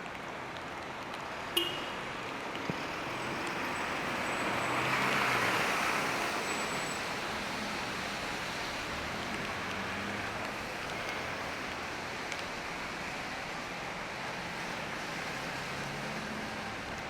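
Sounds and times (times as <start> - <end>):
rainy city background hiss: 0.0 - 17.0
tyre hiss on wet street: 0.0 - 17.0.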